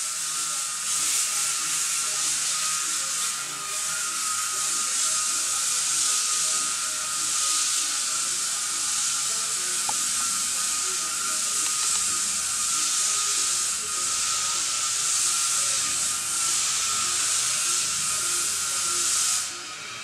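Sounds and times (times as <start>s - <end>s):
compressed air hissing: 0.0s - 20.0s
thin steady whine: 0.0s - 20.0s.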